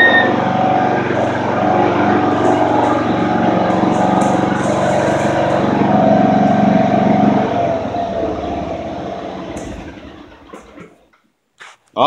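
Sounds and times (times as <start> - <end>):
faint whine dropping in pitch: 0.0 - 11.2
riding mower engine: 0.0 - 11.2.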